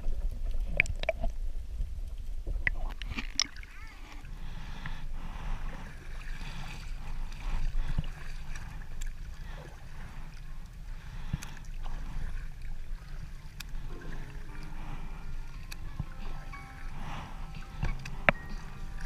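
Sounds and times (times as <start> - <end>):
water lapping on kayak hull: 0.0 - 19.0
paddle splashing in water: 2.6 - 19.0.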